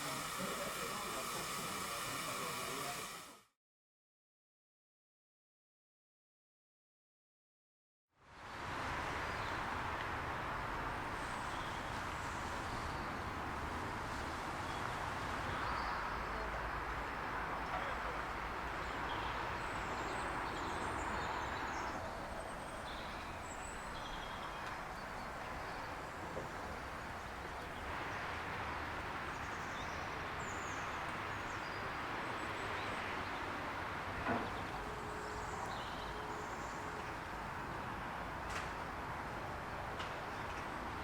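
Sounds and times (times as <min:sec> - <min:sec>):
outdoor background noise: 0:00.0 - 0:03.6, 0:08.1 - 0:41.0.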